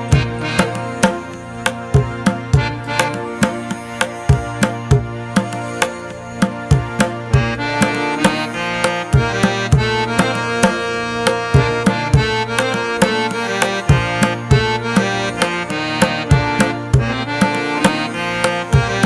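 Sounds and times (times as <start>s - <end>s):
hand drum strokes: 0.0s - 19.0s
reedy melodic tones: 0.0s - 19.0s.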